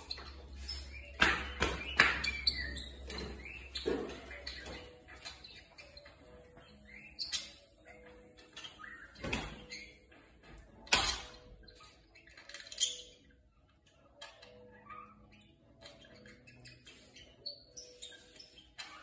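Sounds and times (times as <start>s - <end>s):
budgerigar chirping and chattering: 0.0s - 10.1s, 10.9s - 19.0s.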